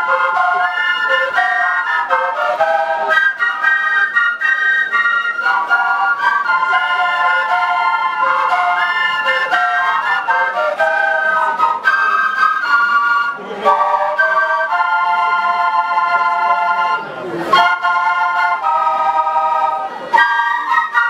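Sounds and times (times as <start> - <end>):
flute ensemble playing: 0.0 - 21.0.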